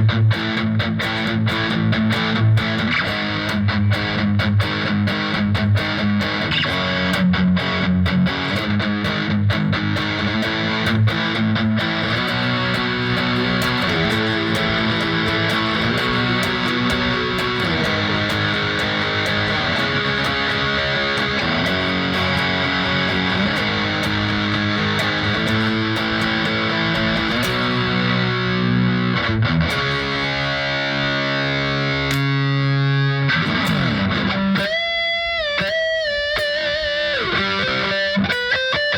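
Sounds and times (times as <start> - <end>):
distorted electric guitar riff: 0.0 - 38.9.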